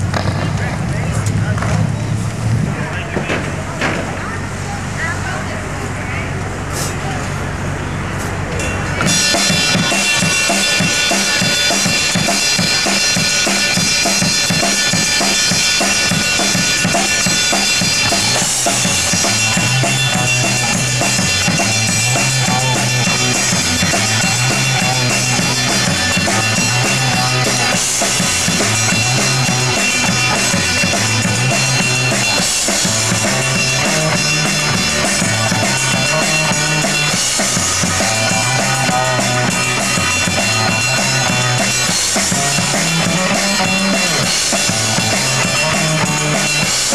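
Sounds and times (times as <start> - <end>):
drum kit: 0.0 - 2.0, 8.1 - 46.9
bass line: 0.0 - 46.9
electric guitars: 8.6 - 46.9.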